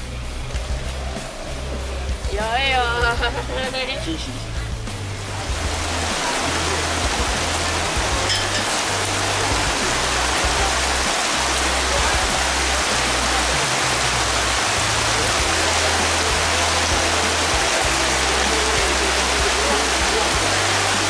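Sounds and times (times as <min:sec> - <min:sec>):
low bass music: 0:00.0 - 0:21.0
steady rushing hiss: 0:00.0 - 0:21.0.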